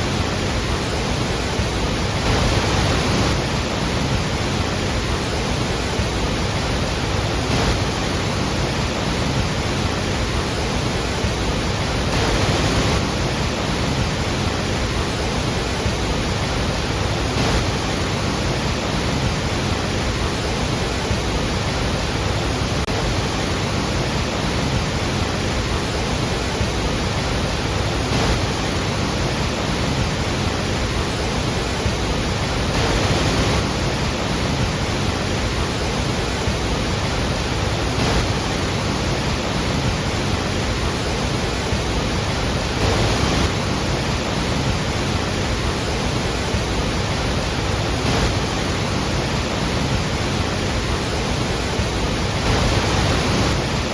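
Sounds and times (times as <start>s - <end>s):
large waterfall rushing: 0.0s - 53.9s.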